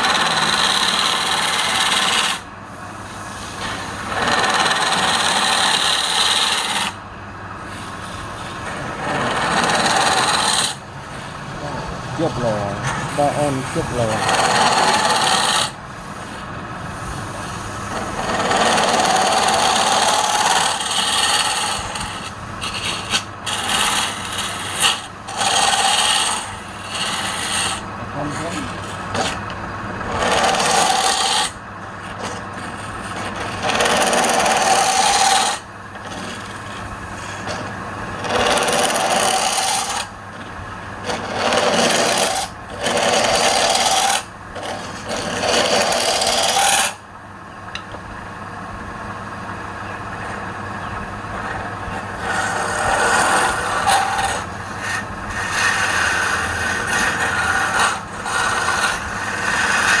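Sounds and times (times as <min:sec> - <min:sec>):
tool scraping spinning wood: 0:00.0 - 0:47.1, 0:49.4 - 1:00.0
lathe motor hum: 0:00.0 - 1:00.0.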